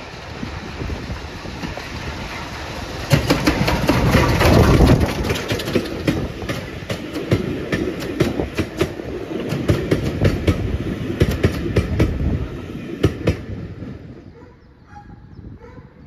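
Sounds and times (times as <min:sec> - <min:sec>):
steam locomotive rumble: 0:00.0 - 0:14.8
train wheels clacking over rail joints: 0:00.3 - 0:13.7.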